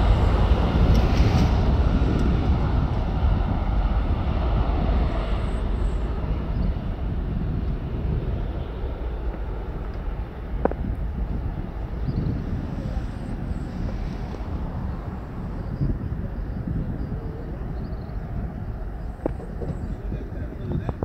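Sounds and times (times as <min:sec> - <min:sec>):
jet engines rumbling: 0:00.0 - 0:21.0
wind on microphone: 0:00.0 - 0:21.0.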